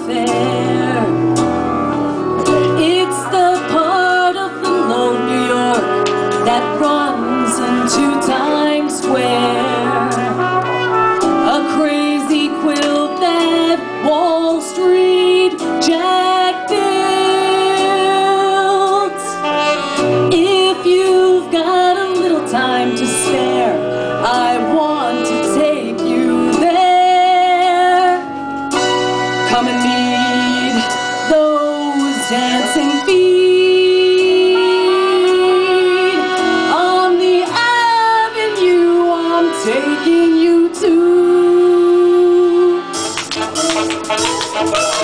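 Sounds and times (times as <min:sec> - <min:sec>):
woman singing into microphone: 0:00.0 - 0:43.0
brass instruments: 0:00.0 - 0:45.0.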